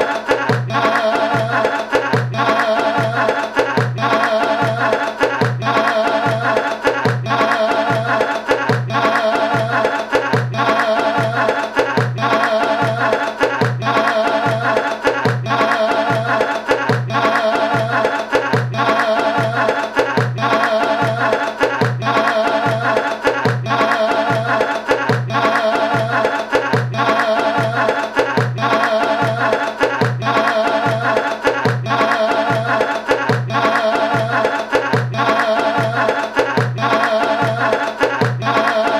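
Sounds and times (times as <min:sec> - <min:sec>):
music with low pulsing beat: 0:00.0 - 0:38.9.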